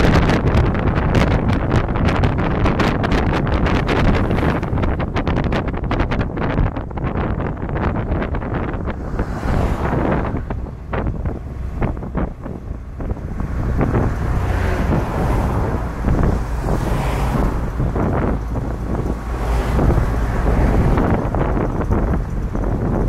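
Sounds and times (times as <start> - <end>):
road and driving rumble: 0.0 - 23.0
wind buffeting microphone: 0.0 - 23.0.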